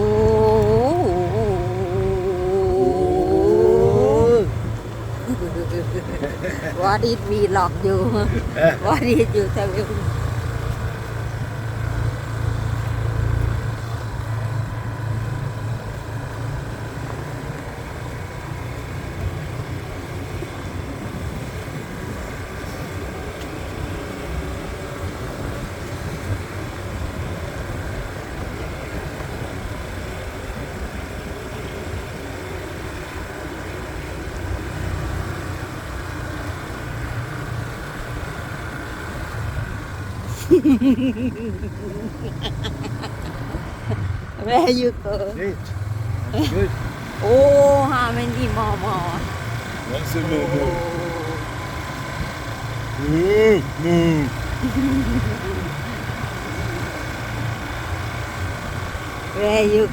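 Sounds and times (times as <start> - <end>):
motorbike engine running: 0.0 - 59.9
ride rumble: 0.0 - 59.9.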